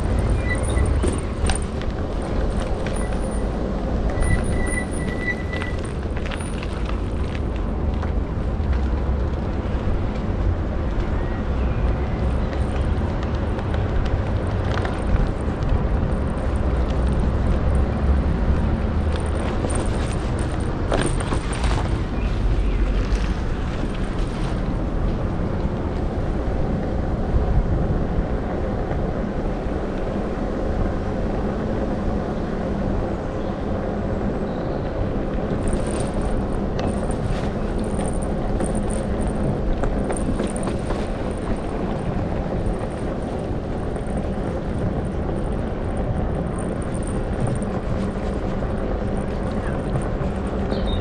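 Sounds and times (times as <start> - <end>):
bicycle tyres rolling on pavement: 0.0 - 51.0
wind buffeting microphone: 0.0 - 51.0.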